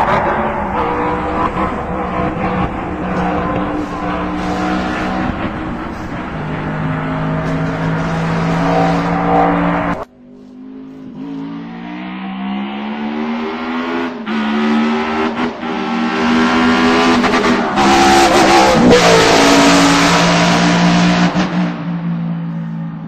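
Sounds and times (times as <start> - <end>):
racing car engine revving: 0.0 - 10.1, 10.8 - 21.9.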